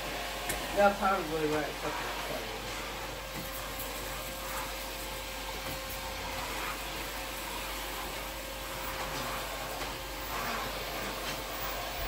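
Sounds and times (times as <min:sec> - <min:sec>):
shop vacuum running: 0:00.0 - 0:12.0.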